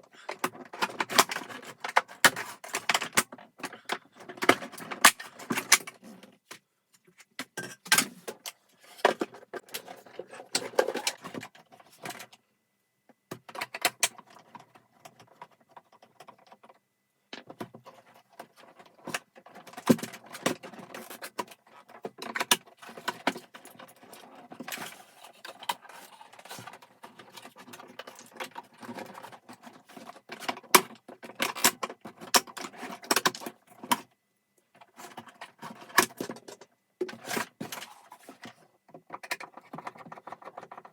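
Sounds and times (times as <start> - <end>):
vacuum cleaner parts clicking and rattling: 0.1 - 6.5, 7.1 - 12.4, 17.4 - 34.1, 34.7 - 40.9.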